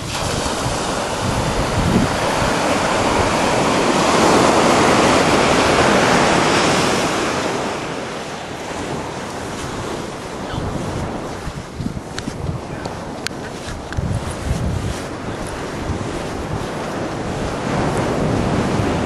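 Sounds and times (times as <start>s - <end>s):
wave breaking on sand: 0.0s - 19.0s.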